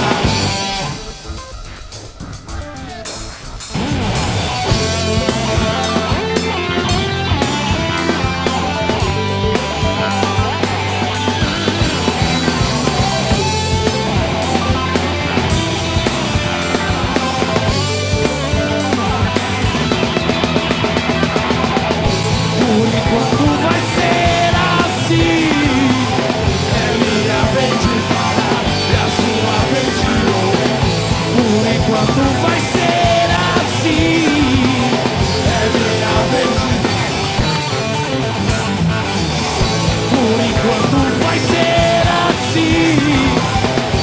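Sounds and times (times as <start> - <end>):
distorted electric guitars: 0.0 - 44.0
driving drum kit: 0.0 - 44.0.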